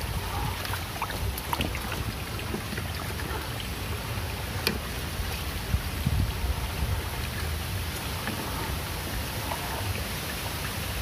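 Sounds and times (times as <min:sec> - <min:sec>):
creek water trickling over rocks: 0:00.0 - 0:11.0
wind rumble on microphone: 0:00.0 - 0:11.0.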